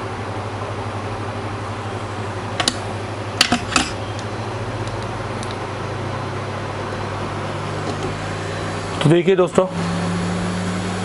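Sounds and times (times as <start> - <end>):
hot air blower humming: 0.0 - 11.0.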